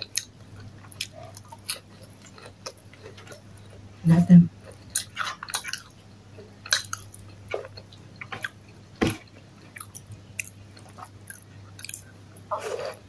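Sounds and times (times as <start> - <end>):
person chewing food: 0.0 - 3.9, 4.6 - 13.0.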